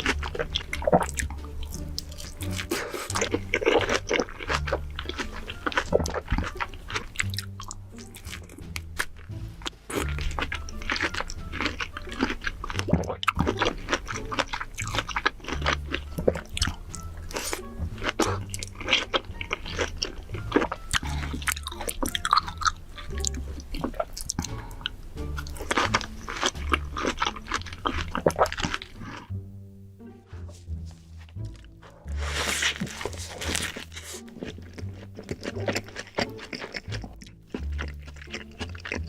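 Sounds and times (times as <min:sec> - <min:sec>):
person chewing crunchy food: 0:00.0 - 0:29.4, 0:31.2 - 0:39.0
background music with bass: 0:00.0 - 0:39.0.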